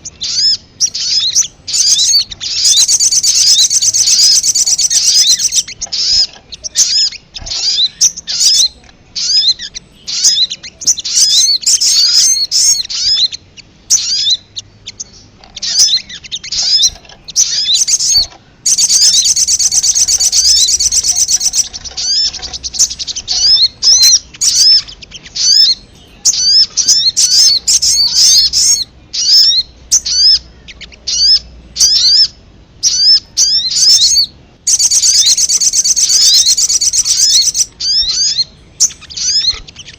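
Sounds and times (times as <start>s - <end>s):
bird chipping calls: 0.0s - 39.9s.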